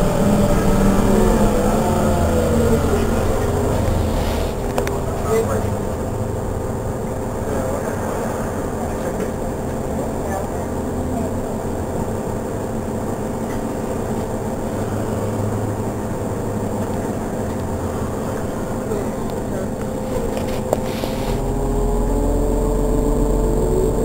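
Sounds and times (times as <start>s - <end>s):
diesel bus engine idling: 0.0s - 24.0s
rising whine: 0.0s - 24.0s.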